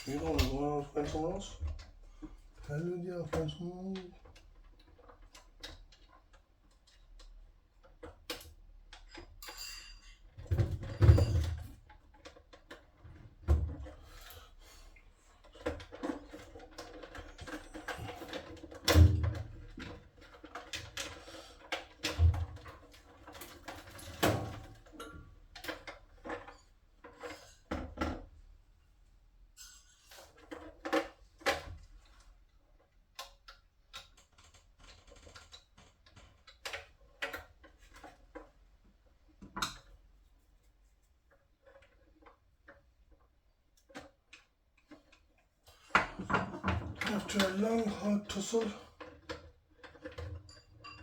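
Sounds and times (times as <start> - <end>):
clicks knocks and rattles of tools: 3.3 - 14.4, 15.4 - 28.4, 29.6 - 38.7, 41.3 - 51.0.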